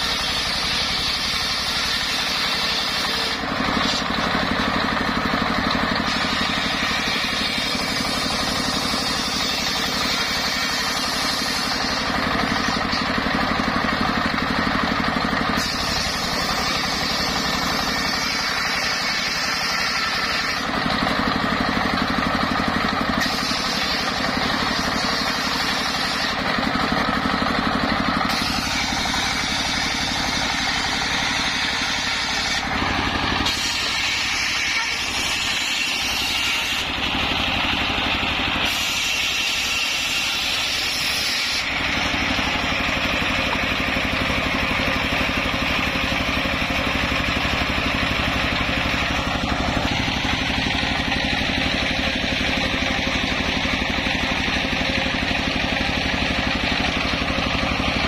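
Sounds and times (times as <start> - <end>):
circular saw ripping logs: 0.0 - 58.0
diesel engine running: 0.0 - 58.0.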